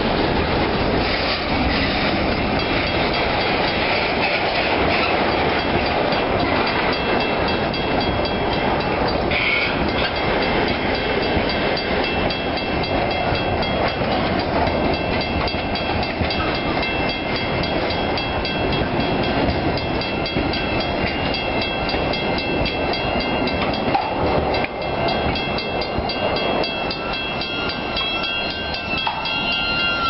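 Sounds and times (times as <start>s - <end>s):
freight train wheels rumbling: 0.0s - 30.0s
level-crossing bell ringing: 5.6s - 30.0s.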